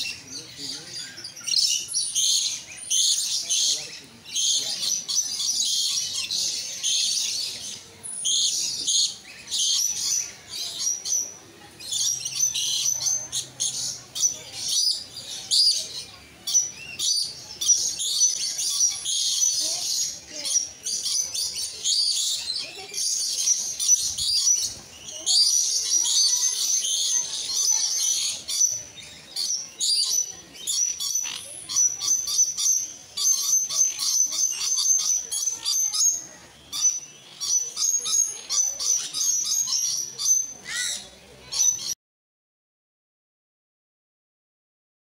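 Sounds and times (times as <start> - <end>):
birds chirping and chattering: 0.0 - 42.0.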